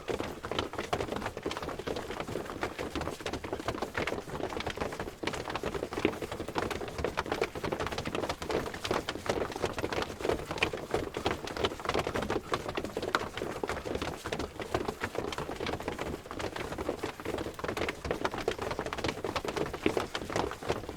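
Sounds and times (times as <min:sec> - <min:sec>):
crowd footsteps: 0:00.0 - 0:20.9.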